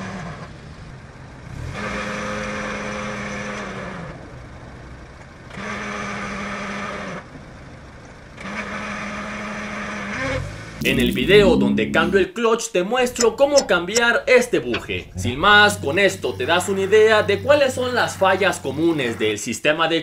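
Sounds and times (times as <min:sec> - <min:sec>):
car engine whirring: 0:00.0 - 0:19.5.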